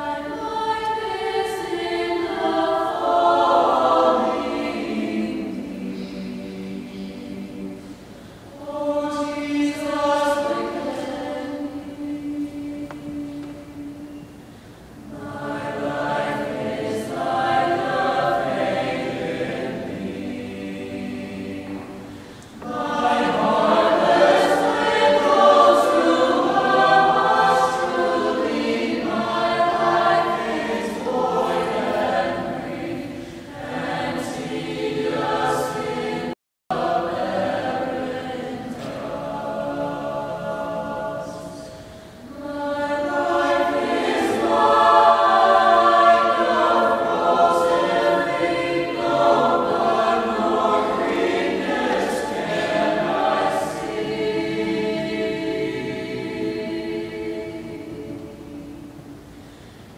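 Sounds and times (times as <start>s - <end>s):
mixed choir singing: 0.0s - 59.5s.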